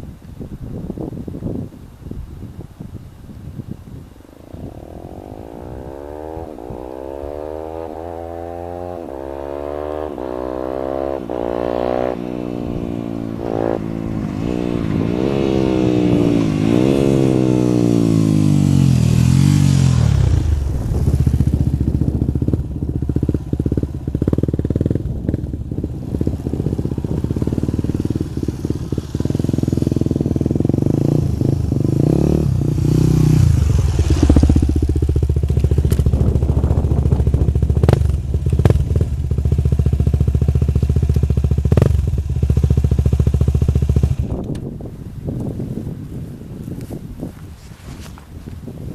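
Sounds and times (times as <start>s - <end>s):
loud motorcycle engine revving: 4.6s - 44.4s.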